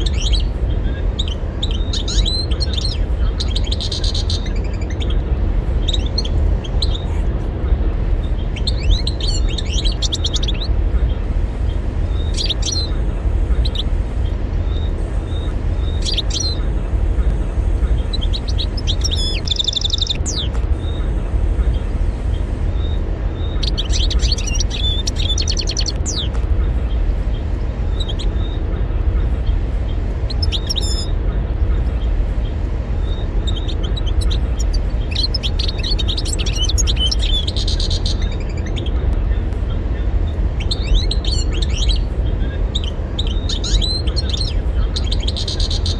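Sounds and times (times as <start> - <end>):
finch twittering song: 0.0 - 45.9
steady low rumble: 0.0 - 45.9.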